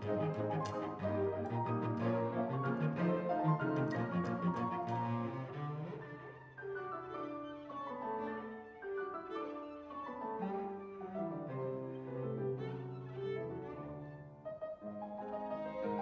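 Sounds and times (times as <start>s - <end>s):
cello bowing: 0.0s - 16.0s
grand piano playing: 0.0s - 16.0s.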